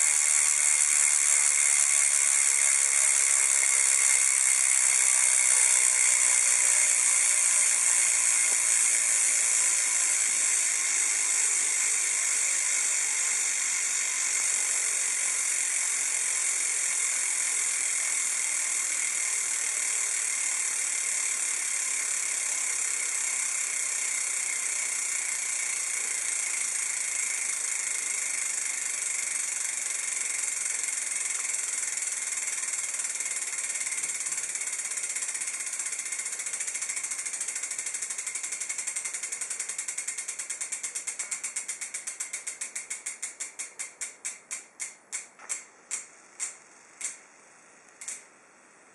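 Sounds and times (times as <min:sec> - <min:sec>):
bicycle hub freewheeling buzz: 0:00.0 - 0:48.9.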